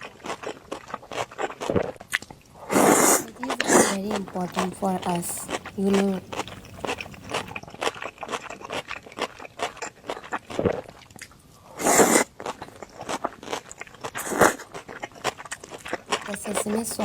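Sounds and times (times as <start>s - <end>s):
person chewing and crunching: 0.0s - 17.0s.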